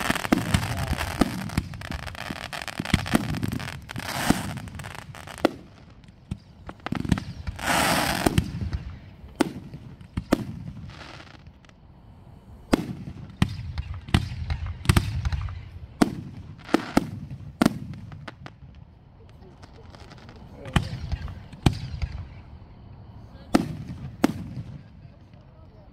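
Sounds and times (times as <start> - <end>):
fireworks booming: 0.0 - 11.8, 12.4 - 25.6
firework hiss: 0.0 - 25.6.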